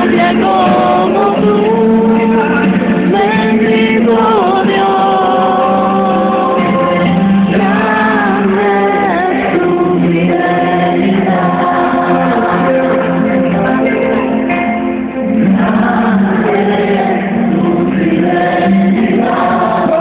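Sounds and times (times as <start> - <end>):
voices singing together: 0.0 - 20.0.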